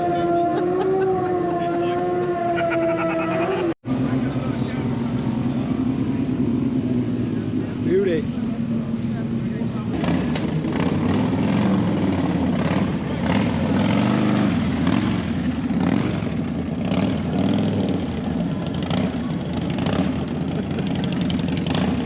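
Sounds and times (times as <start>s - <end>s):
motorcycle engine idling with blips: 0.0s - 22.0s.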